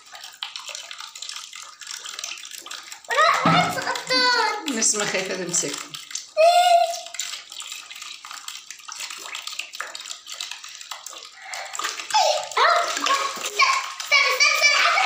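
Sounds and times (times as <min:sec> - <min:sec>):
water sloshing in a plastic basin: 0:00.0 - 0:15.0.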